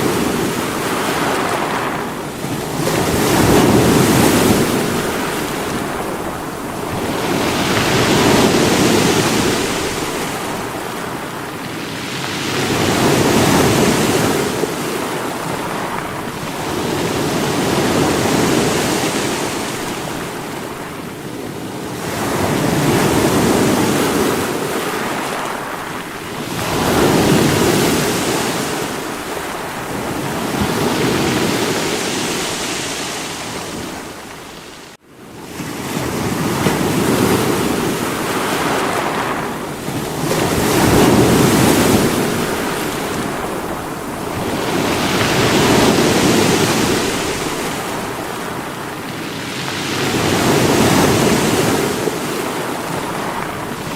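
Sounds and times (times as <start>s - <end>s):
sea waves breaking against rocks: 0.0s - 35.0s, 35.6s - 53.9s.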